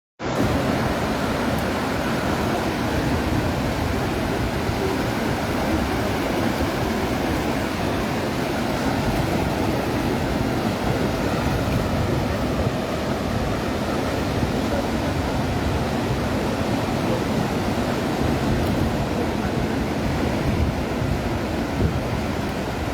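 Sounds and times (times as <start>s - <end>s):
surf washing on beach: 0.2s - 22.9s.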